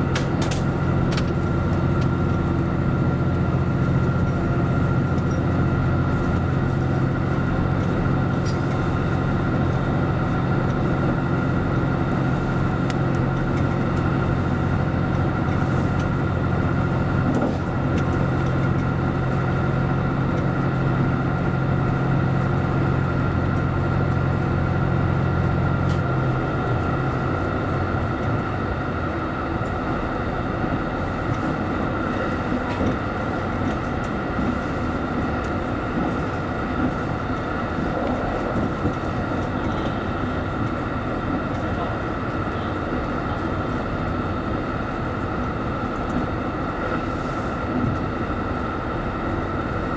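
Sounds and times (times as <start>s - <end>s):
diesel engine drone: 0.0s - 49.9s
train wheels on rails: 0.0s - 49.9s.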